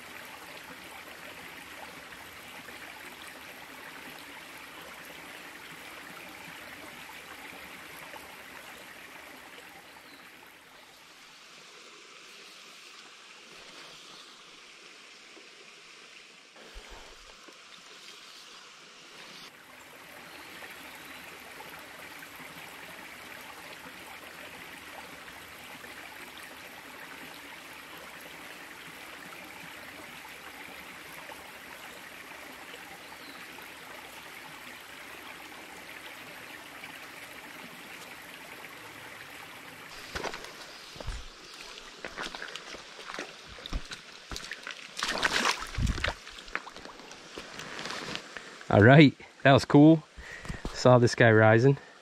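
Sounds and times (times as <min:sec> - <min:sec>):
brook trickling over rocks: 0:00.0 - 0:52.0.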